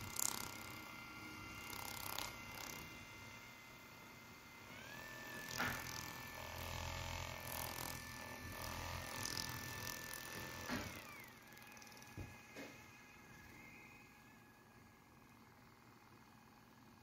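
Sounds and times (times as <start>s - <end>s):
massage gun motor whine: 0.0s - 17.0s.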